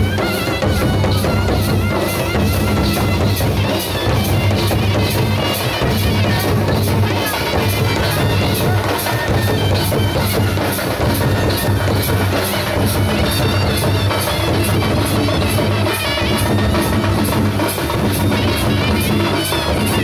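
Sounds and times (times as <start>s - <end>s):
barrel drums beating: 0.0s - 20.0s
high wavering melody: 0.0s - 20.0s.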